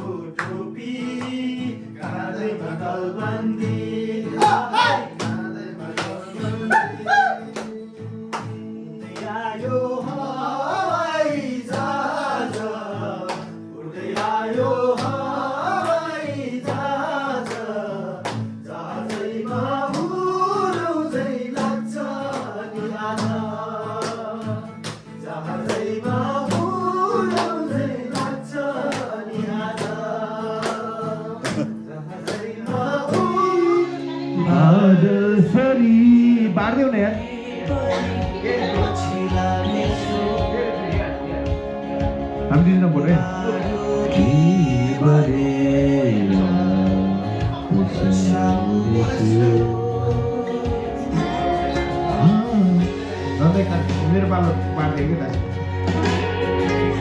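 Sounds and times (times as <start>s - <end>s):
man singing: 0.0s - 41.8s, 42.4s - 57.0s
instrumental accompaniment: 7.4s - 57.0s.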